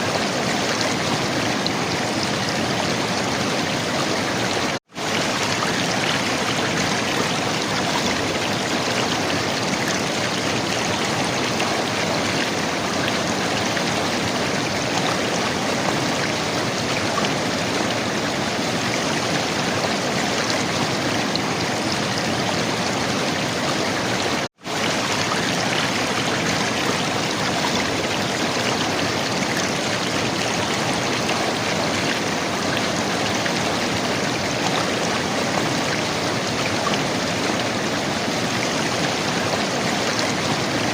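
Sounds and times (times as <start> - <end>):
river water flowing and gurgling: 0.0 - 40.9.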